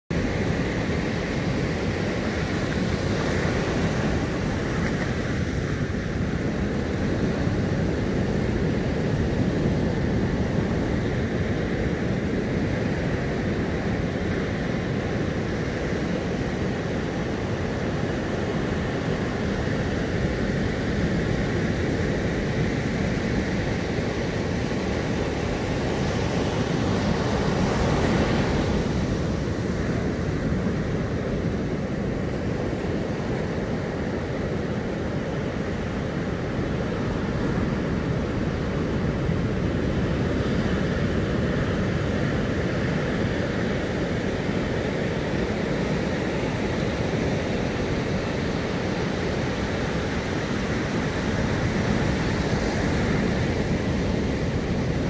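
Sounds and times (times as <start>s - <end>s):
surf breaking on beach: 0.2s - 55.0s.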